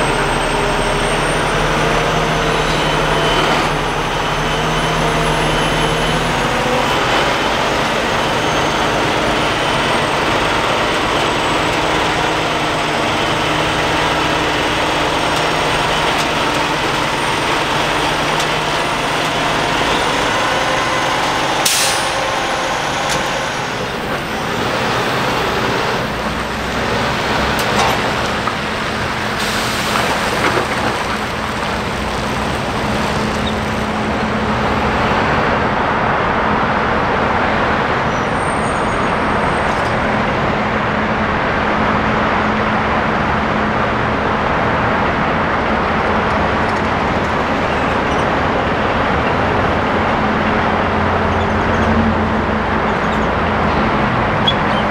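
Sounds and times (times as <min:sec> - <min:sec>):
heavy truck engine running: 0:00.0 - 0:54.9
road traffic noise: 0:00.0 - 0:54.9.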